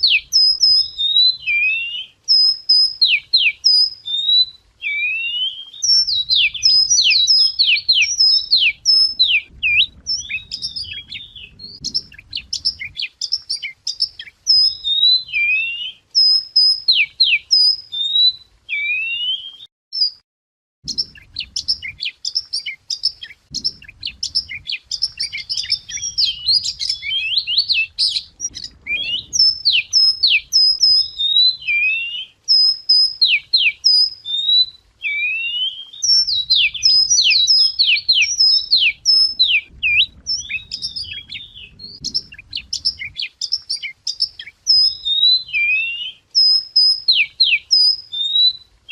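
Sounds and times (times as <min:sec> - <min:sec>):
wagtail whistled chirps and trills: 0:00.0 - 0:20.2, 0:20.8 - 0:48.9.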